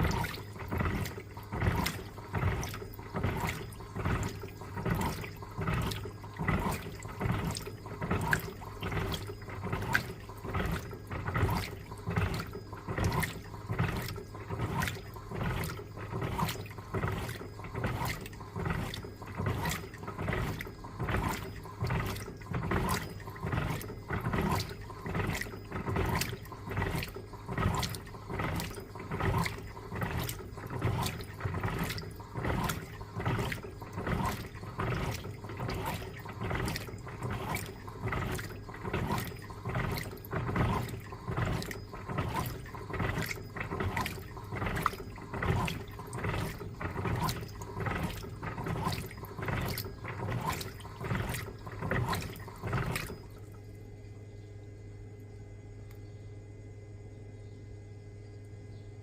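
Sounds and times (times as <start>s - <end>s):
washing machine water sloshing: 0.0s - 54.8s.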